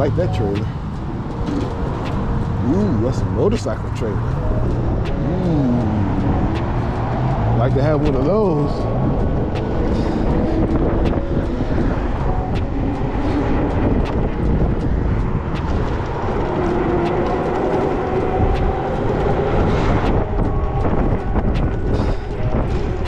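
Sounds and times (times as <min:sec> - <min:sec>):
tyre road rumble: 0:00.0 - 0:23.0
wind buffeting microphone: 0:00.0 - 0:23.0.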